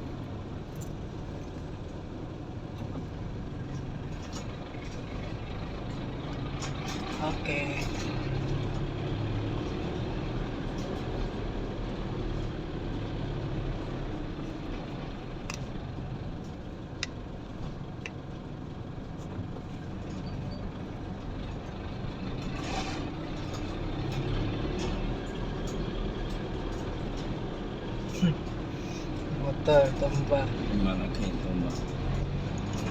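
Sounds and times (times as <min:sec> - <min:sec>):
traffic engines rumbling: 0:00.0 - 0:32.9.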